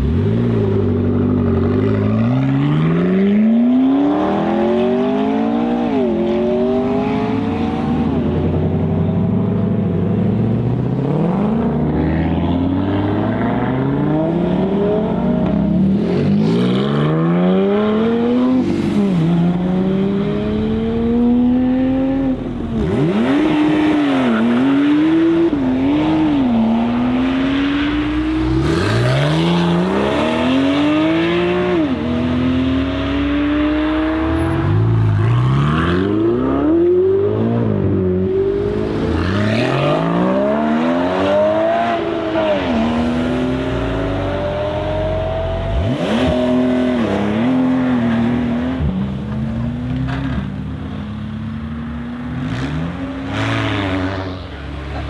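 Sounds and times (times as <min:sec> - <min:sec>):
sports car engine accelerating: 0:00.0 - 0:55.0.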